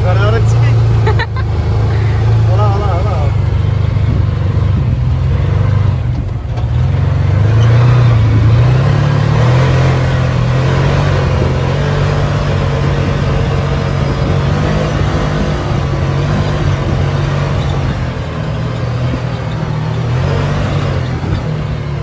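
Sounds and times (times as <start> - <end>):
constant rushing noise: 0.0 - 22.0
utility vehicle engine under load: 0.0 - 22.0.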